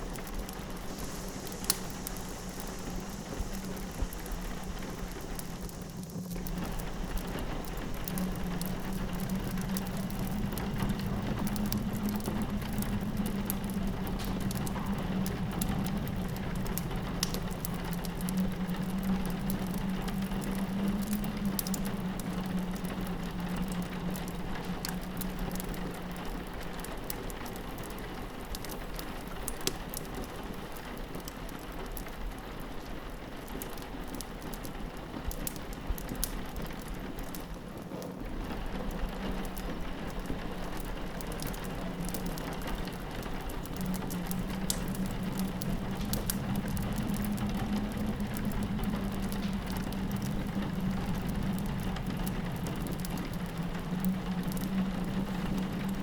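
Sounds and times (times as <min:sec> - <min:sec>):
fireplace crackling: 0:00.0 - 0:56.0
low wind howl: 0:00.0 - 0:56.0
rain pattering on window: 0:00.0 - 0:56.0.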